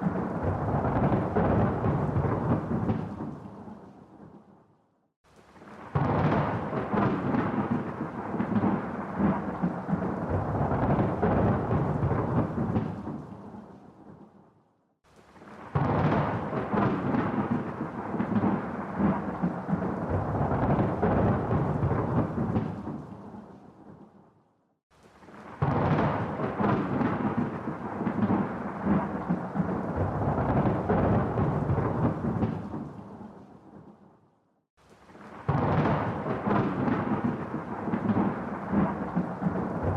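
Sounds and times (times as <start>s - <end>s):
rolling thunder: 0.0s - 4.4s, 5.6s - 14.2s, 15.4s - 24.0s, 25.4s - 33.9s, 35.3s - 39.9s.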